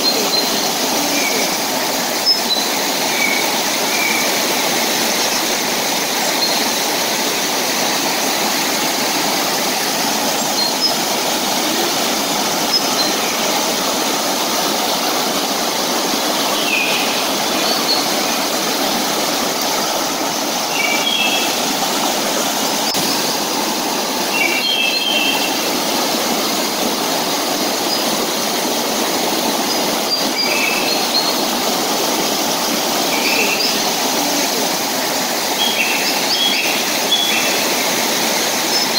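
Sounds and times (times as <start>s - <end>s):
river rushing over boulders: 0.0s - 38.9s.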